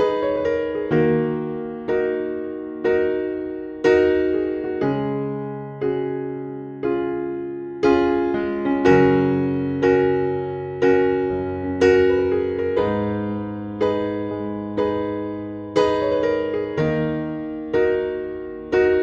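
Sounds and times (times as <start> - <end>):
electric piano chords: 0.0 - 19.0.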